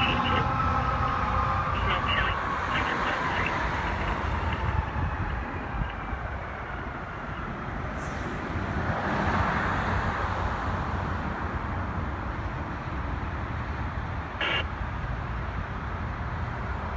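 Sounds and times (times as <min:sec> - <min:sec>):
truck engine and tyre noise: 0:00.0 - 0:16.9.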